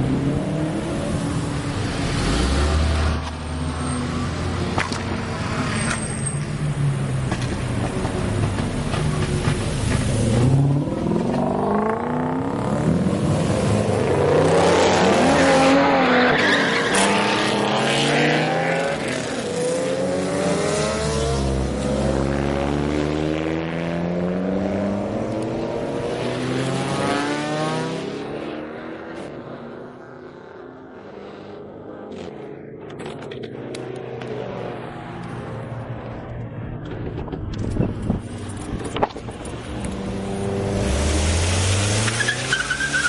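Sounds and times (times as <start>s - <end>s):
car engines revving past: 0.0s - 43.0s.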